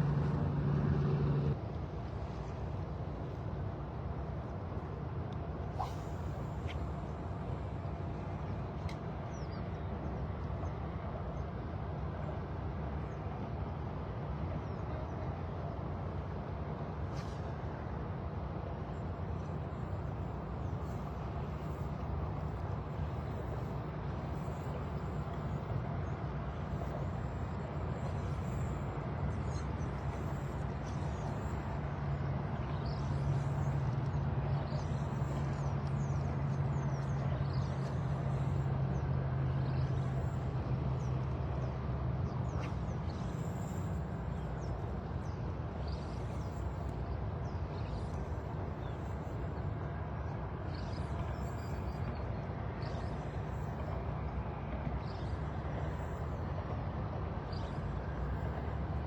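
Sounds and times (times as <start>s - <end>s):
low engine hum: 0.0s - 59.0s.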